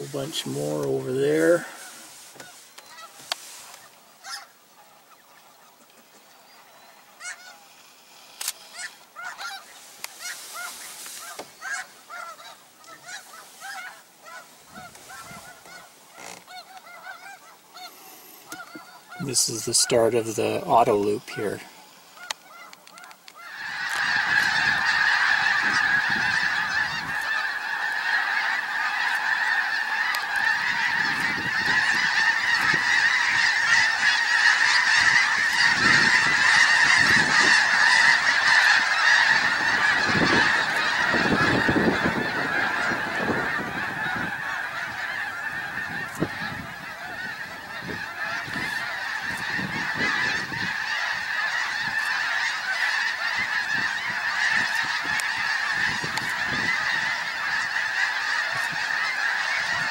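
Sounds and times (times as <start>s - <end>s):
flock of geese honking: 0.0s - 59.9s.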